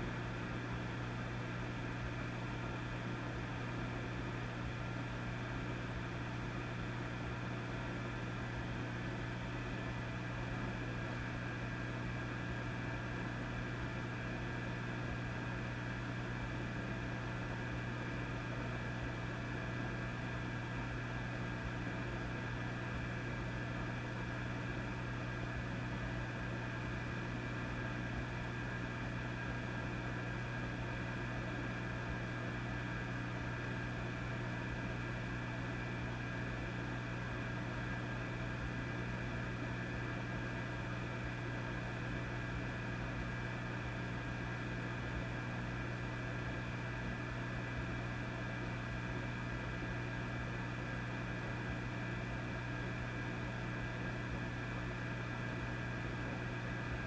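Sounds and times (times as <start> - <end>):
tube amplifier hum: 0.0 - 57.0.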